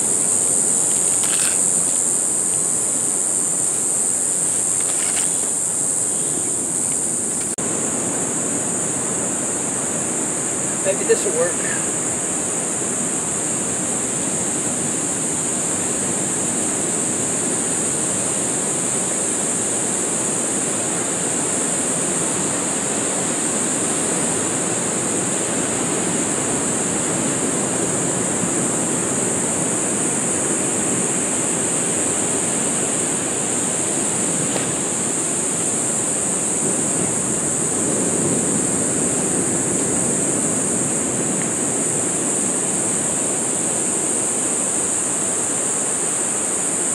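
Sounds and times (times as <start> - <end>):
ocean surf on a beach: 0.0 - 46.9.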